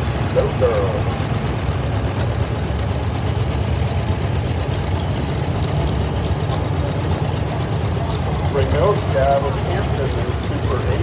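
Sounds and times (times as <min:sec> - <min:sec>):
tractor engine running slowly: 0:00.0 - 0:11.0.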